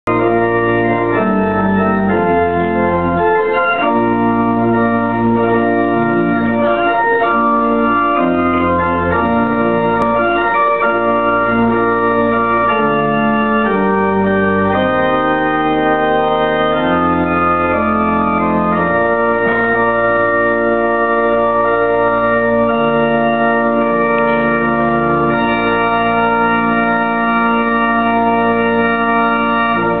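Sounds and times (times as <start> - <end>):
church organ playing chords: 0.1 - 30.0.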